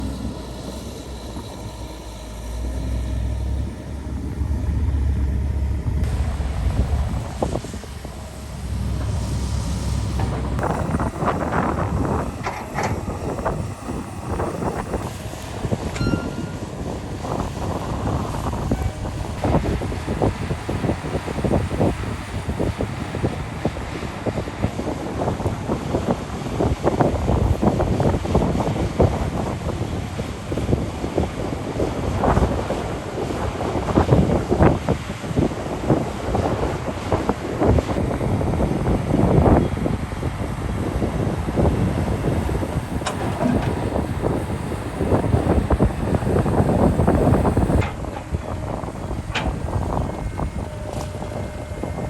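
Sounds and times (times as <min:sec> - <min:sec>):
diesel machinery rumbling: 0:00.0 - 0:52.0
wind buffeting microphone: 0:00.0 - 0:52.0.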